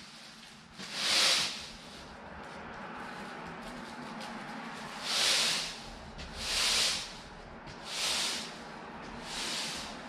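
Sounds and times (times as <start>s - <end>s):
broom bristles swishing on concrete: 0.0s - 10.0s.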